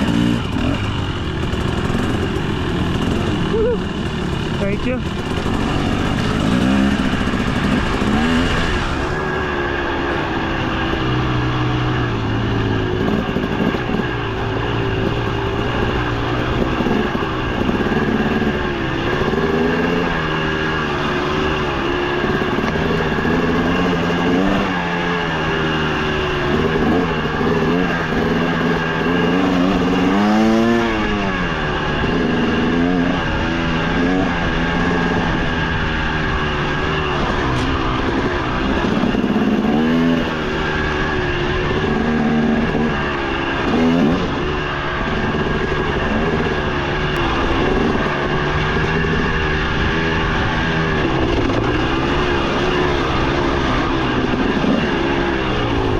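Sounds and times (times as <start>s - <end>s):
two-stroke dirt bike engine revving: 0.0s - 55.9s.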